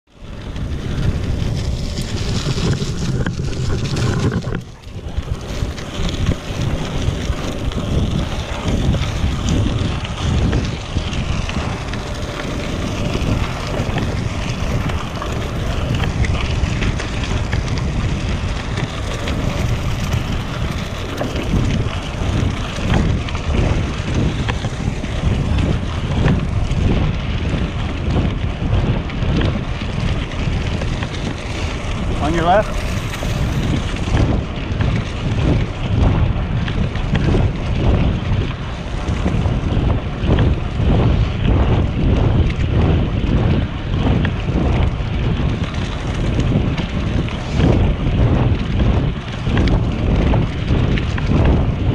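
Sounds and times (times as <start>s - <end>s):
bike tyres rolling over leaves: 0.0s - 51.9s
wind buffeting microphone: 0.0s - 51.9s.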